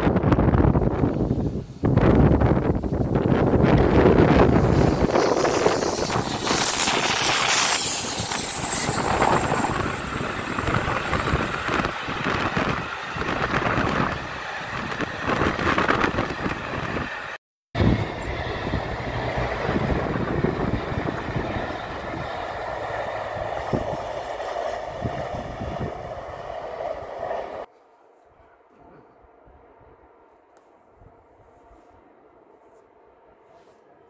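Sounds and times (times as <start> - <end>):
steam train passing at speed: 0.0 - 27.7
diesel train running by: 0.1 - 27.7.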